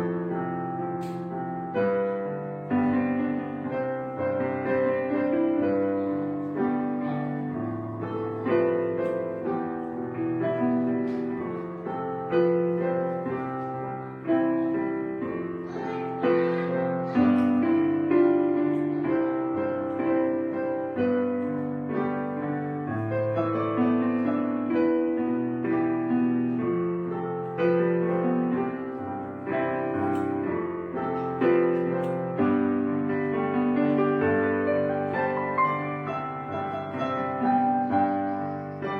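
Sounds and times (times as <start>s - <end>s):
piano chords: 0.0s - 38.9s.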